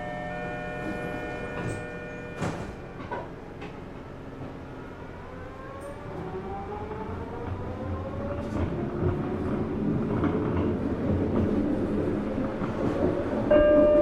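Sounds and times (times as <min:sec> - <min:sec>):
steady train tones: 0:00.0 - 0:14.0.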